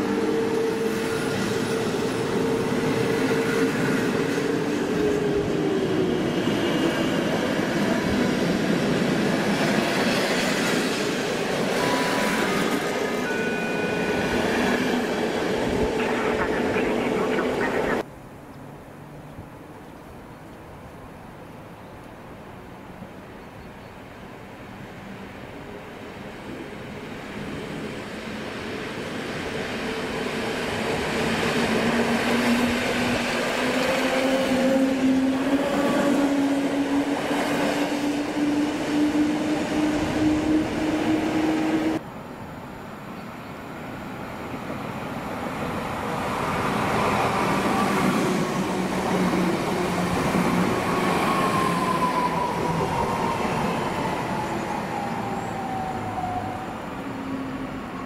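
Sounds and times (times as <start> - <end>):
train passing with whine: 0.0 - 18.1, 24.1 - 58.0.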